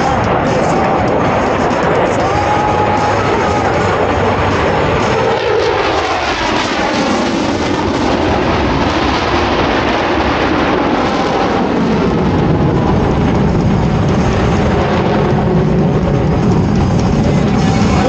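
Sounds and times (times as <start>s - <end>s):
fighter jets roaring past: 0.0s - 18.0s.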